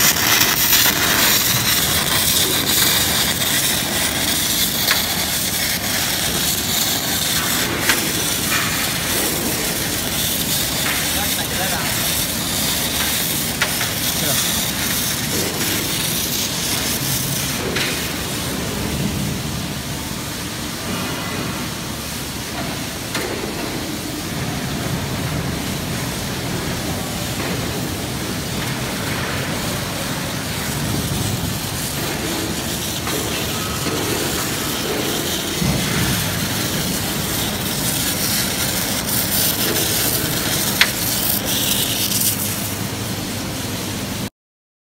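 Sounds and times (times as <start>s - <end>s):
welding arcs hissing and crackling: 0.0s - 44.3s.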